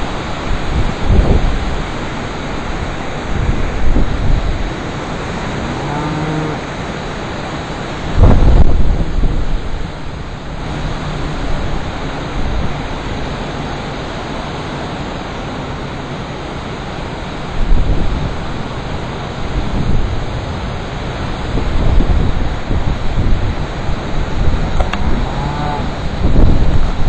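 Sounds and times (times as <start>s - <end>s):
wind howling across microphone: 0.0s - 27.0s.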